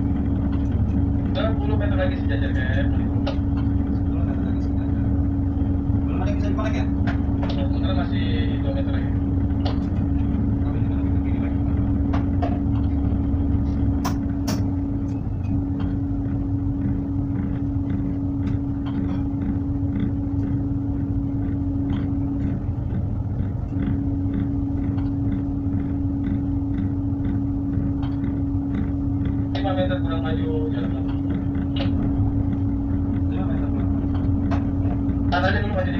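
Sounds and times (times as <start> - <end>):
diesel engine rumbling: 0.0 - 35.9.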